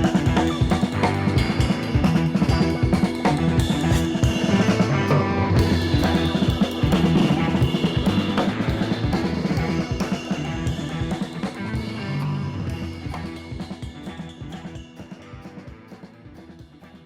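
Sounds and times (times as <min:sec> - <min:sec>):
bass: 0:00.0 - 0:17.0
steady drum beat: 0:00.0 - 0:17.0.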